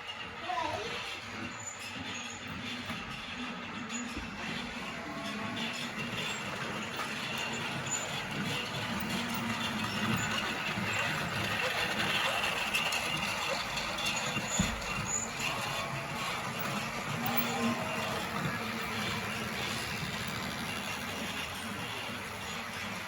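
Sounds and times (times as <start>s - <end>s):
toy train whirring on track: 0.0s - 23.0s.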